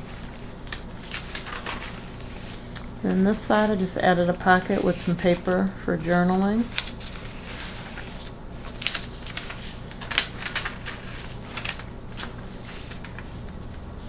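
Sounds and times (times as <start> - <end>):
sharp paper crinkles and flaps: 0.0 - 2.8, 4.6 - 13.9
paper pages rustling: 0.0 - 13.9.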